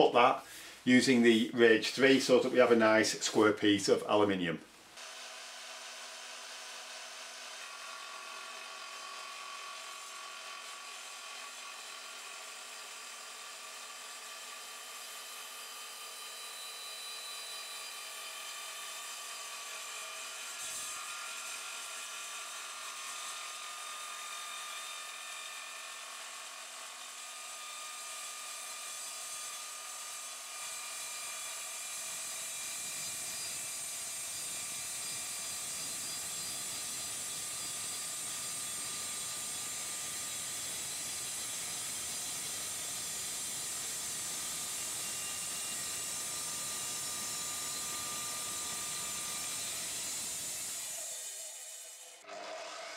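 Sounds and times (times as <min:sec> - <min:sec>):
mitre saw cutting metal plate: 0:05.0 - 0:52.9.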